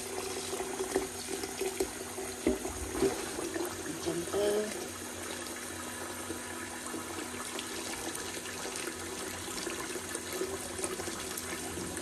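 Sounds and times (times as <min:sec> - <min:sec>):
tap water running into a pot: 0:00.0 - 0:12.0.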